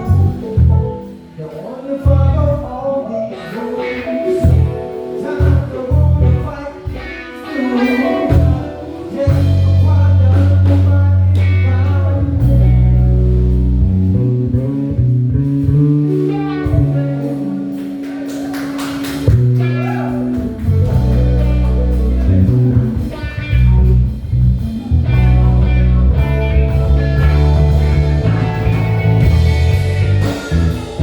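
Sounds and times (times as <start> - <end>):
lead melody line: 0.0 - 1.4, 2.0 - 18.0, 19.2 - 31.0
drums: 0.0 - 31.0
electric bass: 0.0 - 31.0
keyboard: 0.0 - 31.0.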